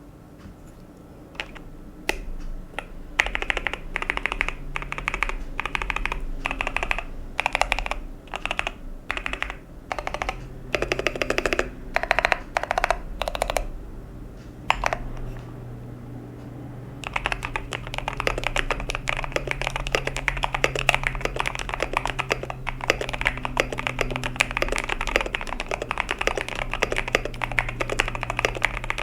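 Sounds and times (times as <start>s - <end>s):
typing on mechanical keyboard: 1.4s - 13.7s, 14.7s - 15.3s, 17.0s - 29.0s.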